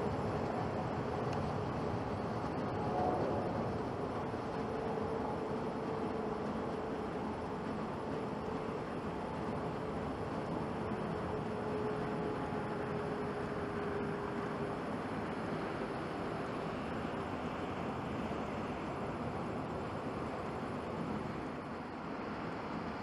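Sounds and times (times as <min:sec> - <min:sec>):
faint jet engine whine: 0:00.0 - 0:23.0
jet engine roar: 0:00.0 - 0:23.0.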